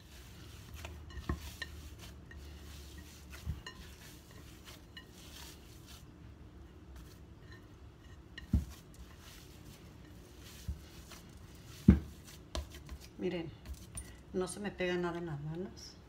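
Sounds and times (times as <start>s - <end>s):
hands kneading dough: 0.0s - 14.2s.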